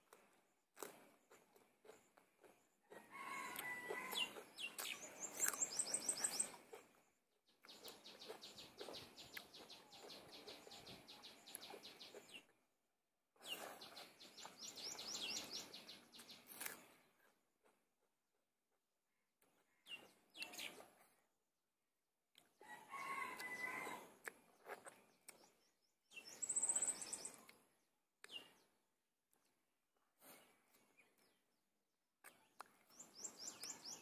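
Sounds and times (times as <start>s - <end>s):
small birds chirping: 0.0s - 12.8s, 13.4s - 17.8s, 19.2s - 21.4s, 22.3s - 34.0s.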